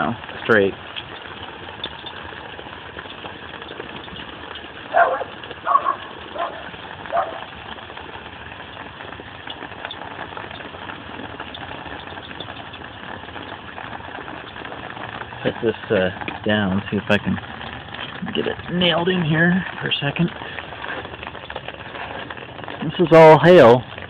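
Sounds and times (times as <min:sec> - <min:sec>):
hail falling: 0:00.0 - 0:24.0.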